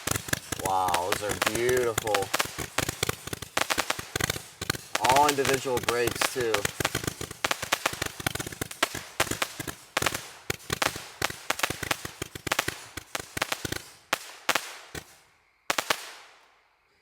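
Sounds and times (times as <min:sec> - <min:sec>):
firework pops and bangs: 0:00.0 - 0:16.5.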